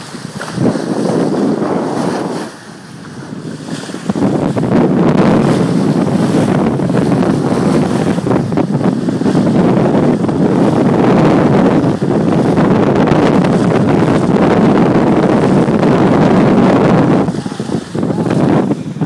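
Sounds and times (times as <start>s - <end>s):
water rushing along a hull: 0.0s - 19.0s
wind buffeting microphone: 0.0s - 19.0s.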